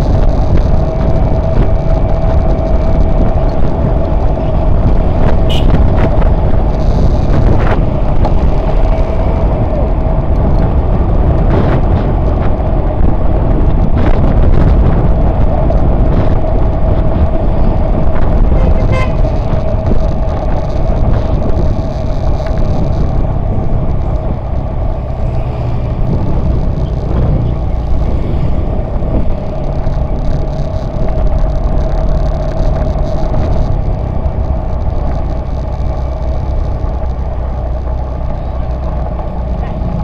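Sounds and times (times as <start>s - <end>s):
motorcycle engine running: 0.0s - 40.0s
wind rumble on microphone: 0.0s - 40.0s.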